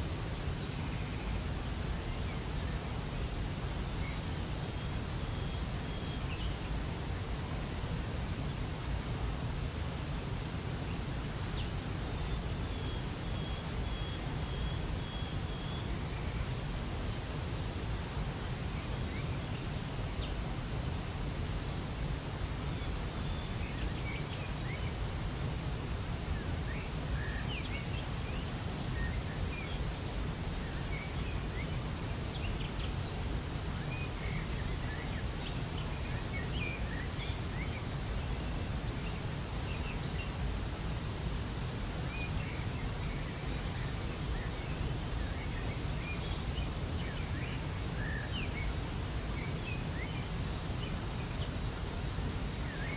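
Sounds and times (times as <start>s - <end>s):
small birds chirping: 0.1s - 52.9s.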